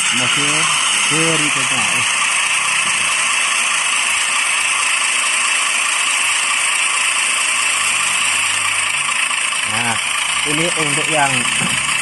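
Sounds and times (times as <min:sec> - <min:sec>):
generator engine through small speaker: 0:00.0 - 0:12.0.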